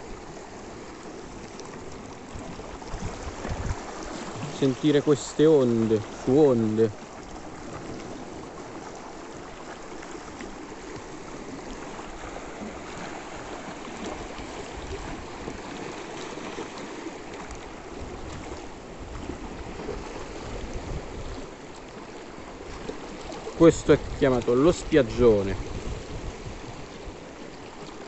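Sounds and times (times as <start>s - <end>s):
sea waves lapping against rocks: 0.0s - 28.0s.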